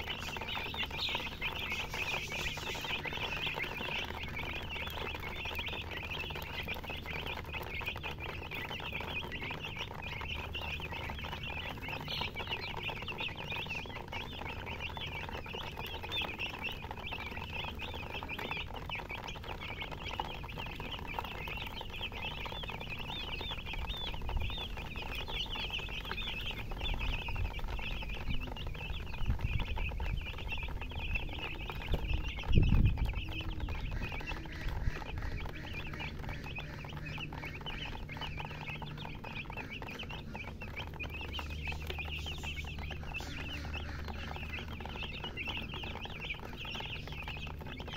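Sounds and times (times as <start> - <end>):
baby chicks peeping: 0.0 - 47.9.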